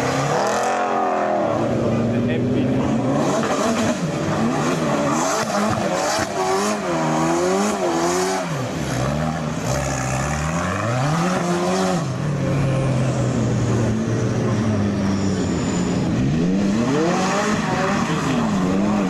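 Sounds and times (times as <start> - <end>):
car accelerating away: 0.0 - 19.0
sports car engine revving: 0.0 - 19.0.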